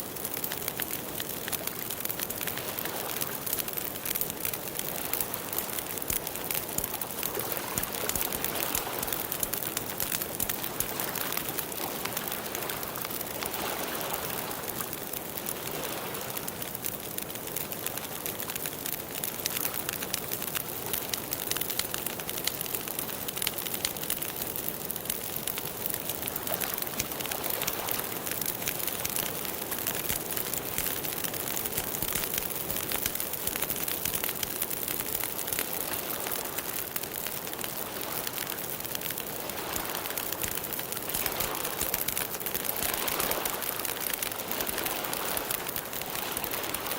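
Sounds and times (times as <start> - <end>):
campfire crackling: 0.0 - 46.9.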